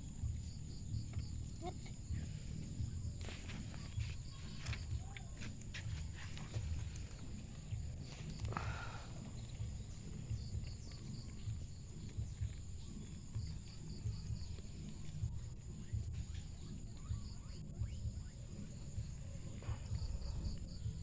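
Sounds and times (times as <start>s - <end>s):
low rumble on microphone: 0.0s - 21.0s
faint chirps: 0.4s - 21.0s.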